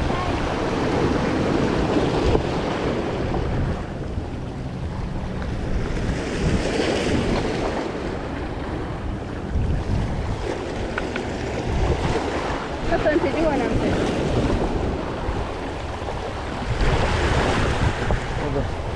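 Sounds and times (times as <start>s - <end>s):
sea waves: 0.0s - 18.9s
wind buffeting microphone: 0.0s - 18.9s.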